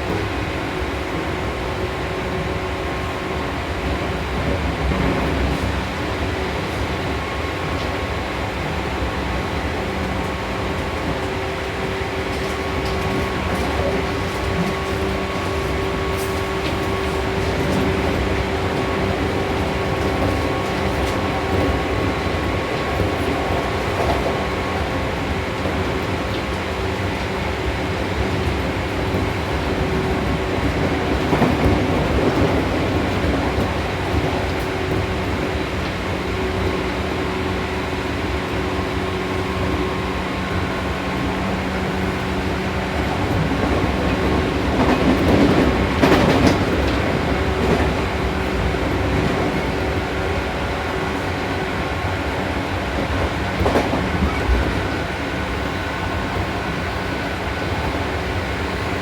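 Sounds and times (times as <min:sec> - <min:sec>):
train motor hum: 0:00.0 - 0:59.0.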